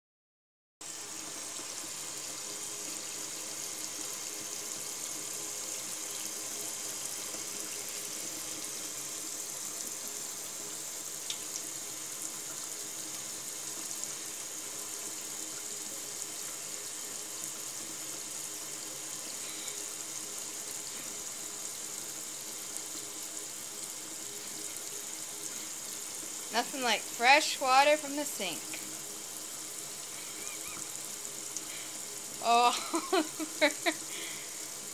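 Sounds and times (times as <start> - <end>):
faucet running into sink: 0.9 - 34.9.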